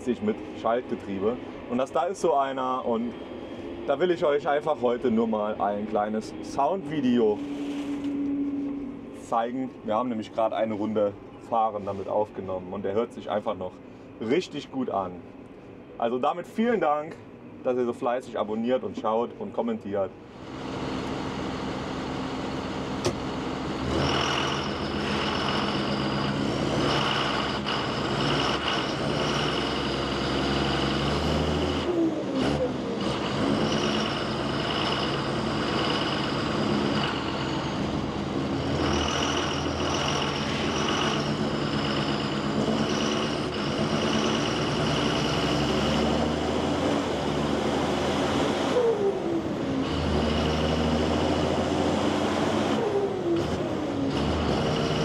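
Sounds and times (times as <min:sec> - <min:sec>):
tractor diesel engine running: 0:00.0 - 0:13.0, 0:20.2 - 0:55.0
steady high whine: 0:00.0 - 0:54.1.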